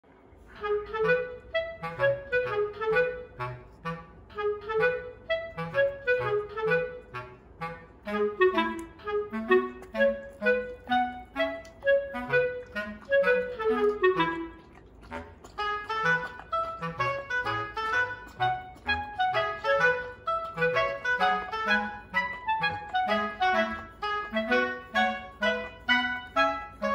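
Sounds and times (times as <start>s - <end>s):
bouncy woodwind tune: 0.5s - 26.9s.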